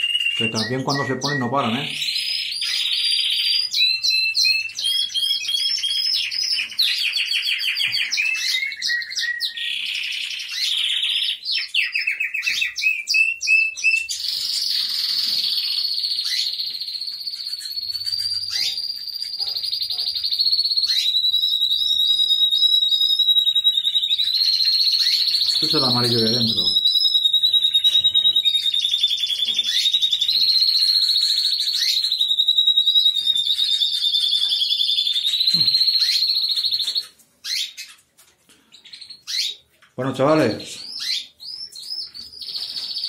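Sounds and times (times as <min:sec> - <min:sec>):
canaries singing trills: 0:00.0 - 0:43.0.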